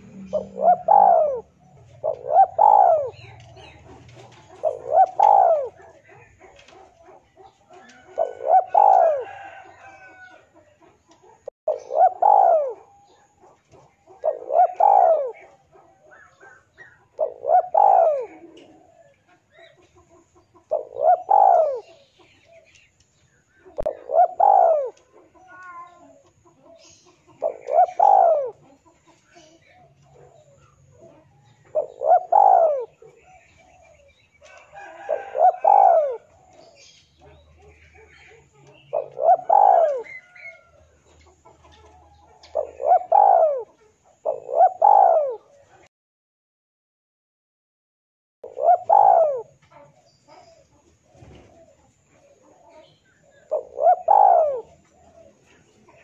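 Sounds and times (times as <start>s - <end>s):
dove cooing: 0.0s - 45.9s, 48.4s - 56.0s.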